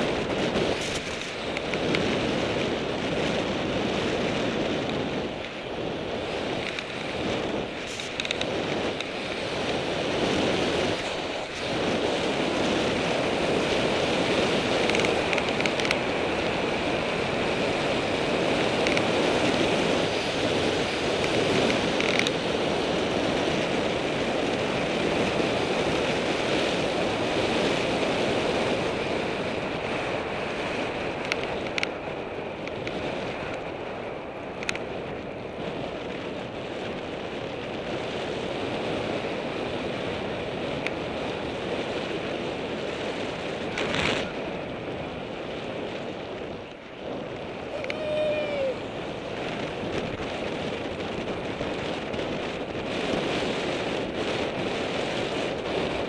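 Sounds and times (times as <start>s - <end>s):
tyre noise on rough asphalt: 0.0s - 27.4s, 38.0s - 56.0s
wind rushing over microphone: 0.0s - 56.0s.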